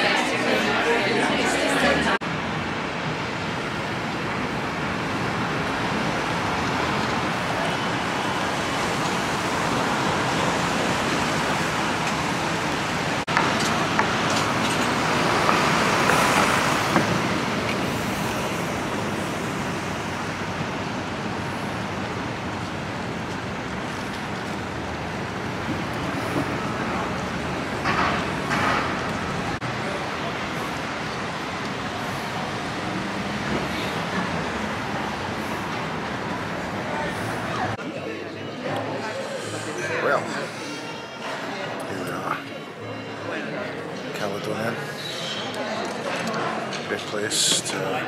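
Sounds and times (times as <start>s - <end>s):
city road traffic: 0.0s - 48.0s.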